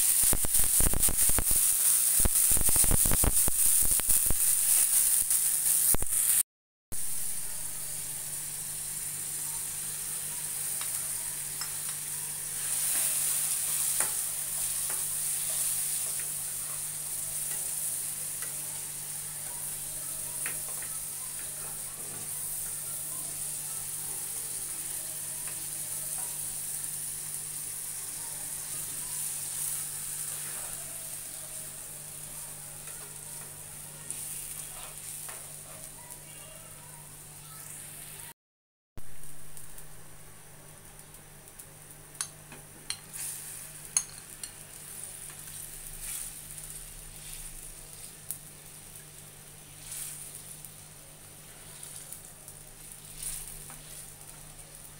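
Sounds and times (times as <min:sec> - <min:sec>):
onion sizzling in oil: 0:00.0 - 0:38.3, 0:39.0 - 0:54.9.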